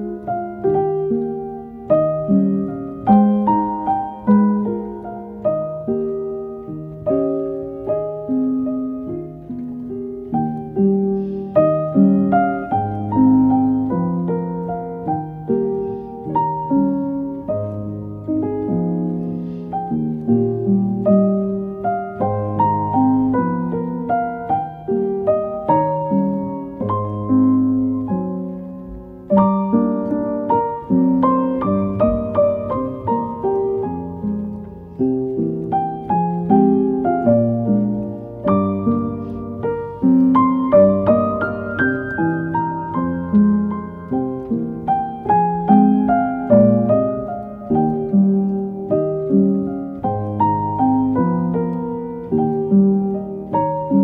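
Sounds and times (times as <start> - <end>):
slow piano piece: 0.0 - 54.0.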